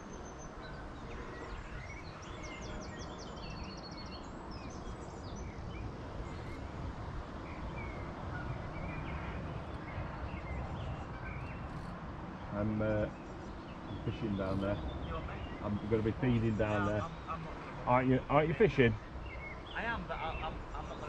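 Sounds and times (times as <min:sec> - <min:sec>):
small birds chirping: 0:00.0 - 0:21.0
wind rumble on microphone: 0:00.0 - 0:21.0.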